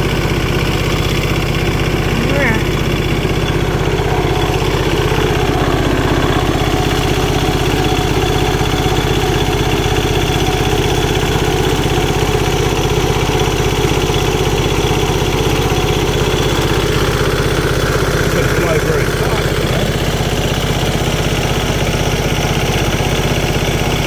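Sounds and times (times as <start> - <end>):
diesel tractor engine idling: 0.0 - 24.0.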